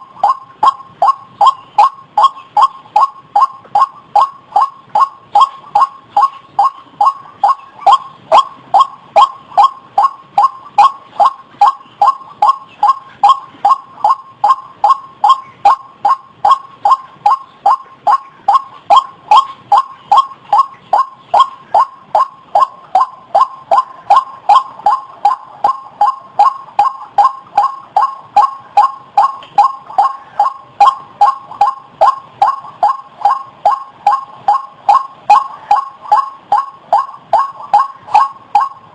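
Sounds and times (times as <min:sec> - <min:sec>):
waterhen repeated call: 0:00.0 - 0:38.9.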